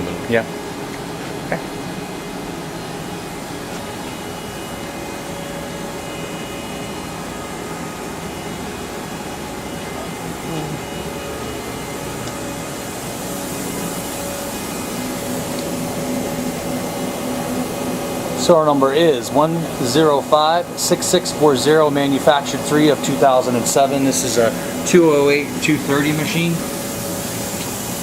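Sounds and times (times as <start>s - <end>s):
machining center whirring: 0.0s - 28.0s.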